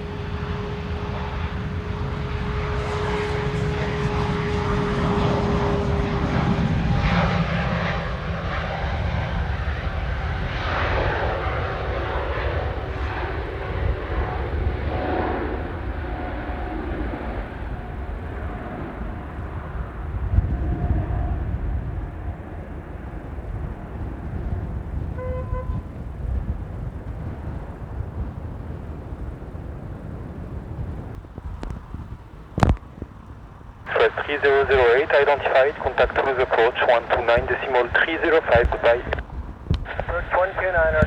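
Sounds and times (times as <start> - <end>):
jet engines at takeoff power: 0.0 - 41.0.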